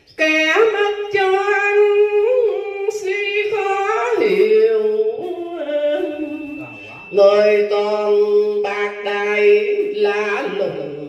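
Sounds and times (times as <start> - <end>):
woman chanting into a microphone: 0.0 - 11.0.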